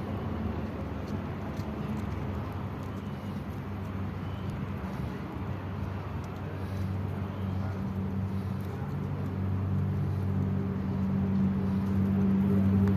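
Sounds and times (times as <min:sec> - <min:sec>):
vehicle engine hum: 0:00.0 - 0:12.9.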